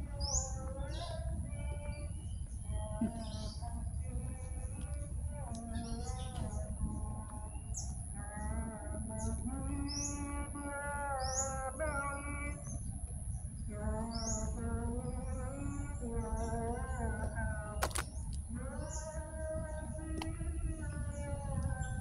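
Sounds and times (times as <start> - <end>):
steady low rumble: 0.0 - 9.7, 10.4 - 22.0.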